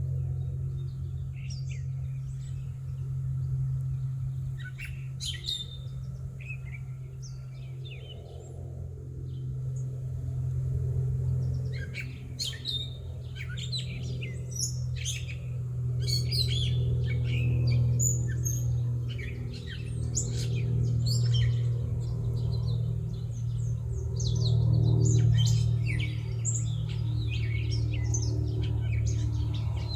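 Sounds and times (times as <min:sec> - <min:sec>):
low machine-like hum: 0:00.0 - 0:29.9
songbirds chirping: 0:00.0 - 0:29.9.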